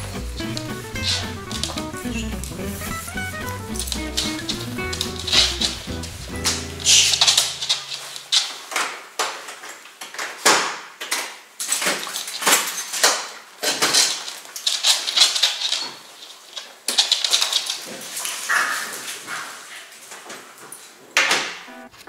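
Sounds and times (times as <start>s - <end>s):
leashes rustling and clinking: 0.0s - 21.1s.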